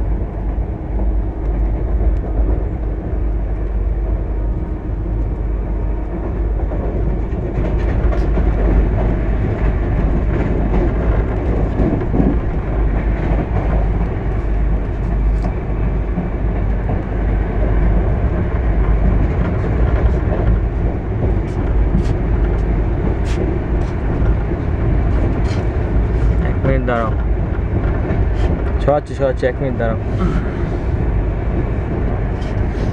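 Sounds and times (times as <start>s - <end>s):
train wheels rumbling on track: 0.0s - 32.9s.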